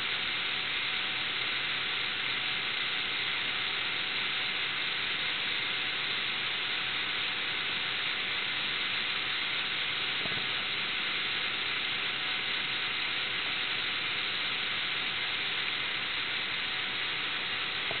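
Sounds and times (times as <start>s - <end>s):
microphone hiss: 1.5s - 18.0s.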